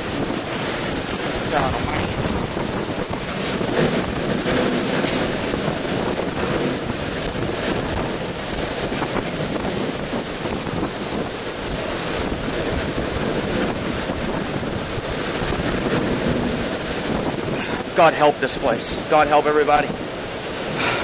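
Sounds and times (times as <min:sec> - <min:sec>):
strong wind gusts: 0:00.0 - 0:21.0
wind buffeting microphone: 0:00.0 - 0:21.0
wind-driven rain: 0:00.0 - 0:21.0.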